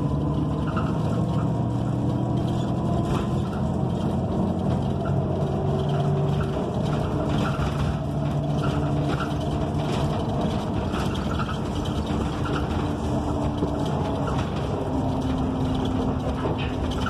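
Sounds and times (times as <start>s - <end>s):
bus engine hum: 0.0s - 17.0s
road noise: 0.0s - 17.0s.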